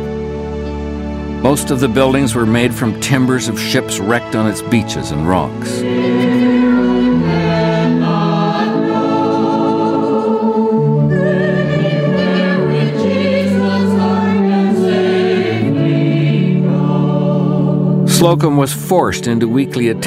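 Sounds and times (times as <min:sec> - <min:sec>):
church choir singing a hymn: 0:01.4 - 0:18.7.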